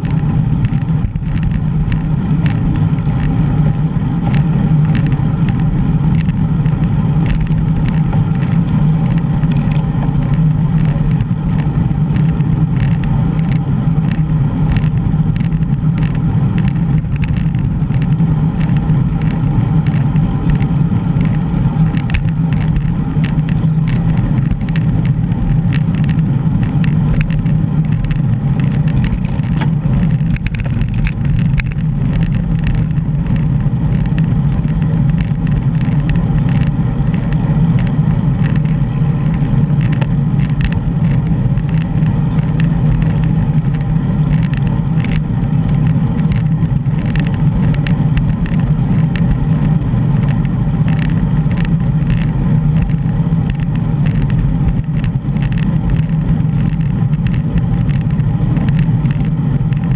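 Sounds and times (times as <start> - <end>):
small clicks and rattles: 0.0 - 59.9
wind and road noise: 0.0 - 59.9.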